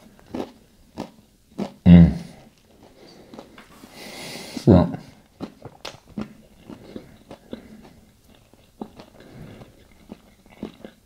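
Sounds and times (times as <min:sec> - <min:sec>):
person chewing with mouth clicks: 0:00.0 - 0:01.8, 0:02.4 - 0:03.7, 0:05.1 - 0:11.0.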